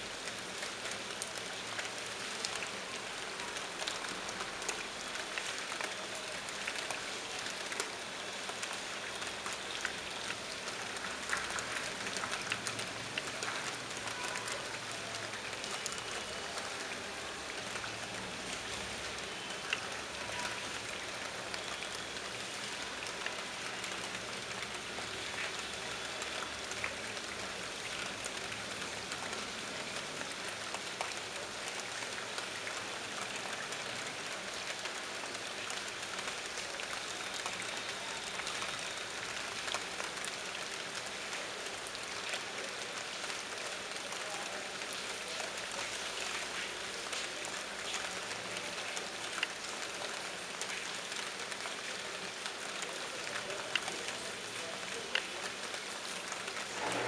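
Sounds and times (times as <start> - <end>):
heavy rain on wet floor: 0.0 - 57.0.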